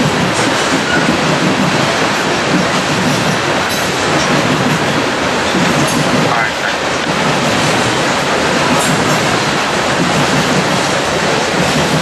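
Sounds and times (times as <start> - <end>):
freight train rolling past: 0.0 - 12.0
steel wheels running on rails: 0.0 - 12.0.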